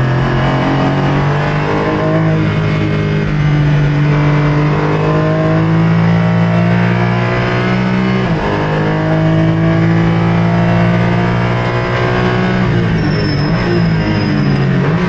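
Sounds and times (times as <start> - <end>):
car engine at full throttle: 0.0 - 15.0.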